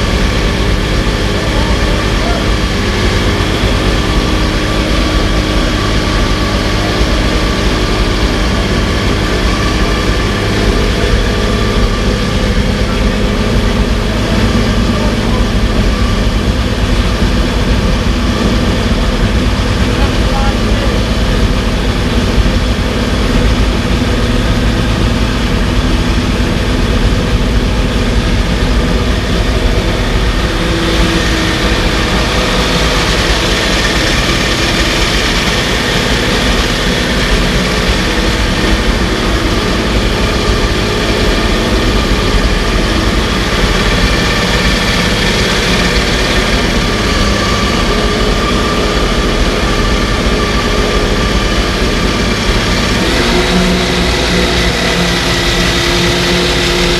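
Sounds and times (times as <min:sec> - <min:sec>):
racing engine idling: 0:00.0 - 0:56.9.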